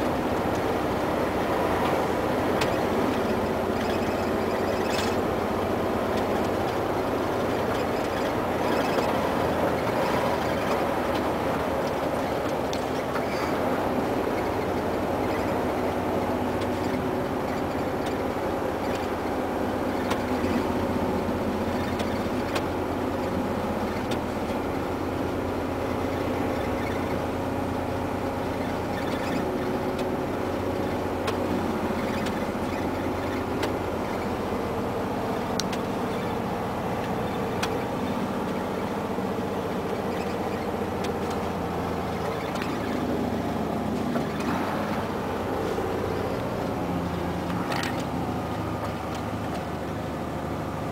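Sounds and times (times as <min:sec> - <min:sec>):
cab rattle clicks: 0:00.0 - 0:50.9
diesel truck engine running: 0:00.0 - 0:50.9
road and tyre noise: 0:00.0 - 0:50.9.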